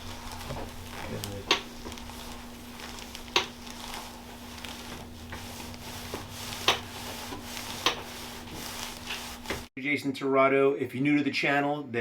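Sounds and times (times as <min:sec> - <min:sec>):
hands rubbing on body: 0:00.0 - 0:09.7.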